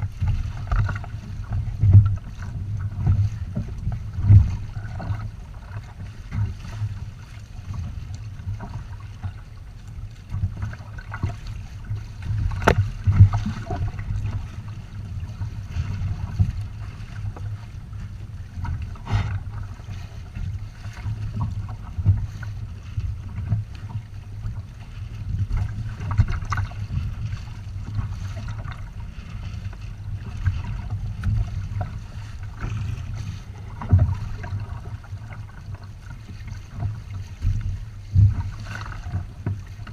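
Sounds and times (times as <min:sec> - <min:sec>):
water rushing along boat hulls: 0:00.0 - 0:39.9
wind rumble on microphone: 0:00.0 - 0:39.9.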